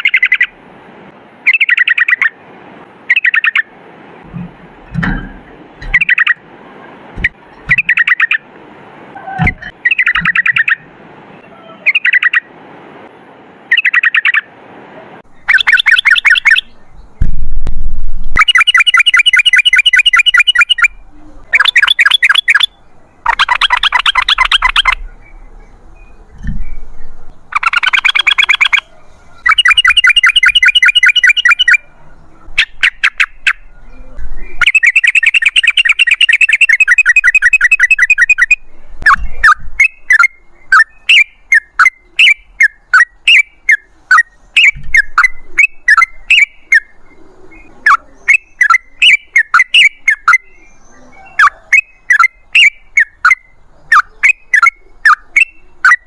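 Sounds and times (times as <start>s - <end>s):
bird chattering song: 0.0s - 0.5s, 1.5s - 2.4s, 3.1s - 3.7s, 5.8s - 6.4s, 7.2s - 8.4s, 9.3s - 10.8s, 11.4s - 12.5s, 13.7s - 14.5s, 15.3s - 17.3s, 18.1s - 56.0s.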